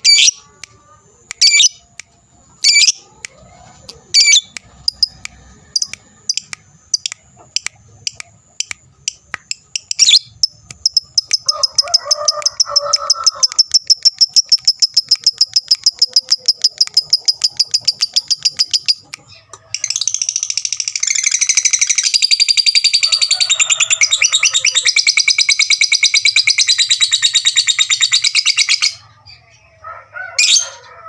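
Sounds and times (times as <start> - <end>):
bird shrill chirps and trill: 0.0 - 0.5, 1.4 - 1.8, 2.6 - 3.0, 4.1 - 7.1, 9.5 - 29.6, 30.3 - 30.9.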